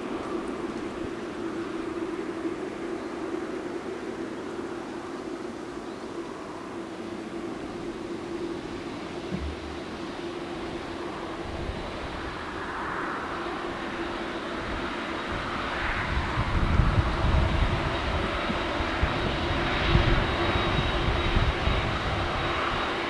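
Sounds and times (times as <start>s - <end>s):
jet engines whining and rumbling: 0.0s - 23.0s.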